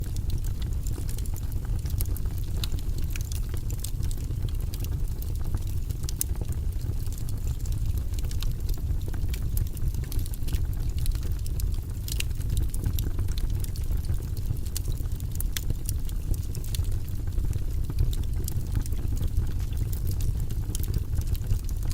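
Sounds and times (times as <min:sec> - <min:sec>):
low fire rumble: 0:00.0 - 0:21.9
wood fire crackling: 0:00.0 - 0:21.9.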